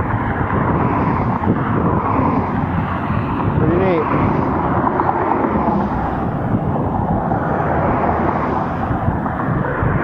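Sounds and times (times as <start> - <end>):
traffic road noise: 0.0 - 10.0
wind rushing over microphone: 0.0 - 10.0.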